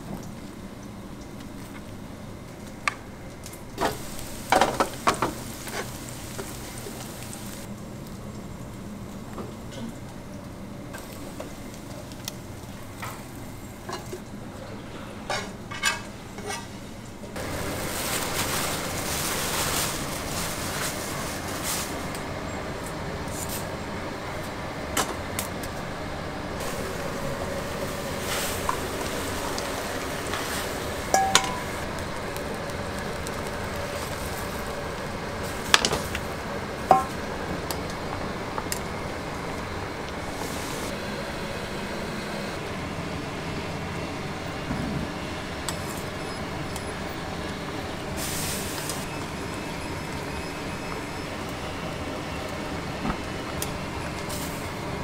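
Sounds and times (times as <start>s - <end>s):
water boiling hard in a pot: 0.0s - 14.5s, 17.3s - 55.0s.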